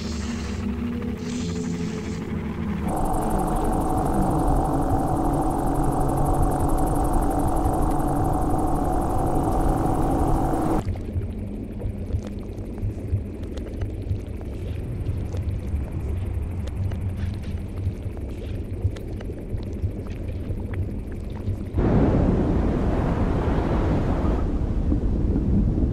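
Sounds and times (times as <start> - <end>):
faint hum: 0.0 - 25.9
low steady rumble: 0.1 - 25.9.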